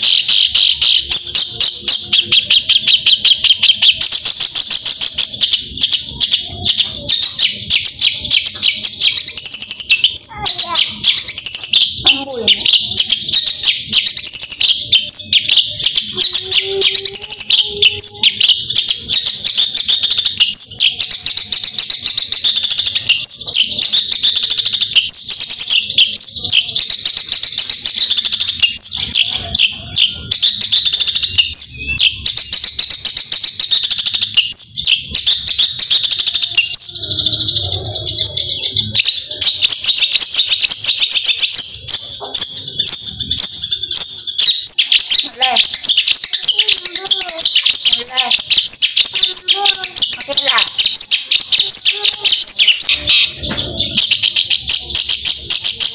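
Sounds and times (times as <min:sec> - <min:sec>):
bird singing rapid sharp chirps: 0:00.0 - 0:55.9.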